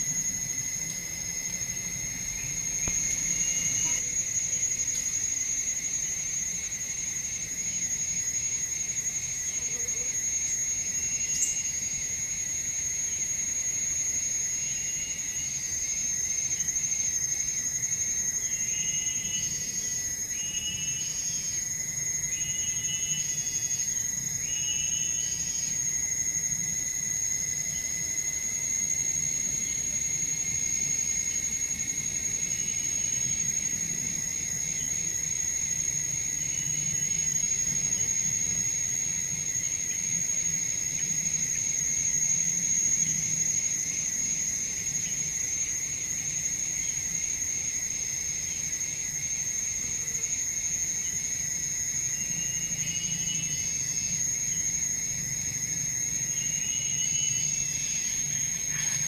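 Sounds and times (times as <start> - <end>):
high-pitched insect drone: 0.0 - 59.0
lower insect tone: 0.0 - 59.0.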